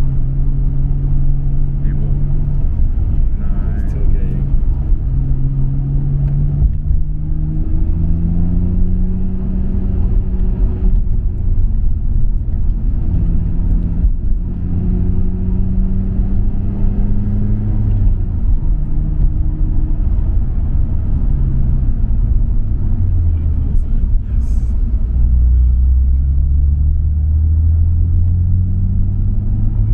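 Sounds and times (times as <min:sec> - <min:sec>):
car engine at part throttle: 0:00.0 - 0:29.9
low road rumble: 0:00.0 - 0:29.9.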